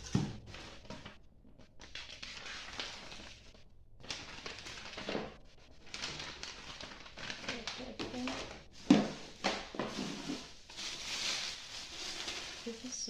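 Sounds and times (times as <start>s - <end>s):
packaging rustling: 1.8s - 13.0s.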